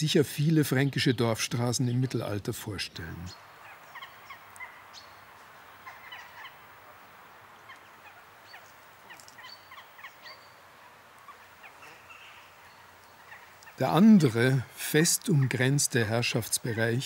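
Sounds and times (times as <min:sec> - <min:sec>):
soft steady hiss: 0:00.0 - 0:17.0.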